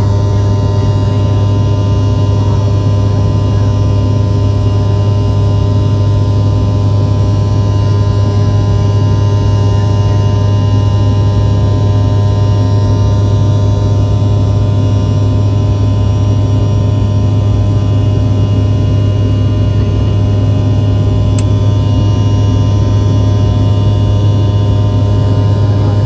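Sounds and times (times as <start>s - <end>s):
jet engine and airflow drone: 0.0s - 26.0s.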